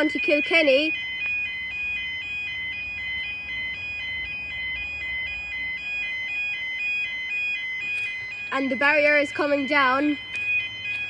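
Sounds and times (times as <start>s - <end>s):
electronic two-tone alarm: 0.0s - 11.0s.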